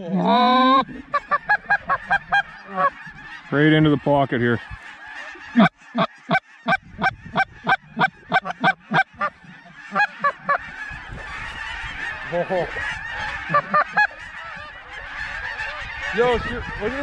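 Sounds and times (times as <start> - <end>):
flock of geese calling: 0.0 - 17.0
geese honking: 0.0 - 17.0.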